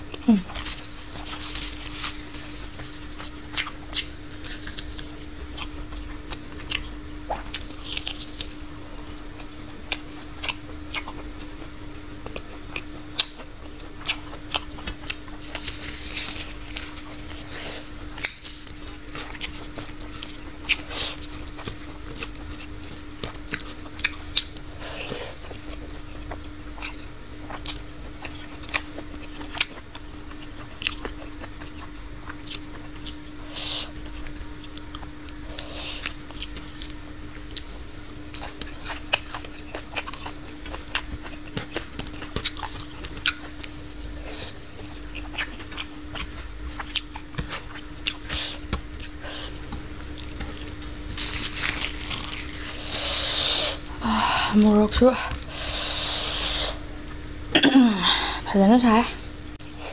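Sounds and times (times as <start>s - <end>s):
person chewing food: 0.0s - 57.3s
steady low hum: 0.0s - 59.9s.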